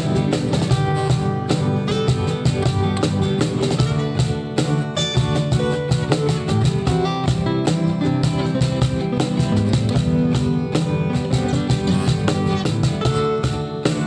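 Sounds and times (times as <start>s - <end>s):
drums playing a steady beat: 0.0s - 14.0s
plucked strings: 0.0s - 14.0s.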